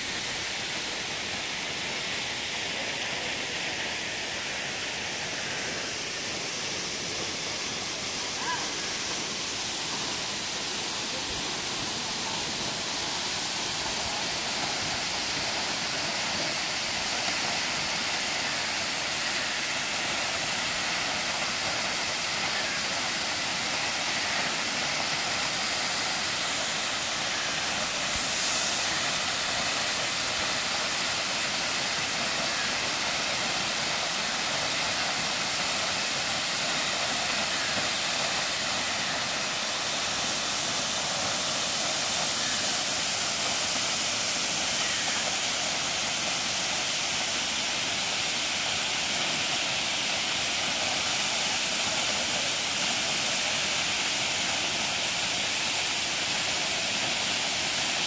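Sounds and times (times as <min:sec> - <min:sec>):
waterfall splashing into pool: 0:00.0 - 0:58.0.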